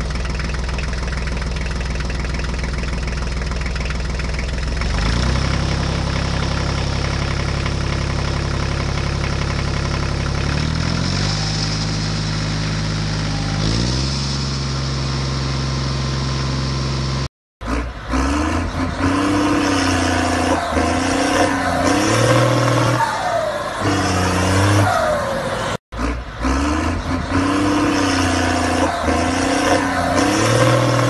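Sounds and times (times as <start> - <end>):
engine with wavering pitch: 0.0 - 31.0.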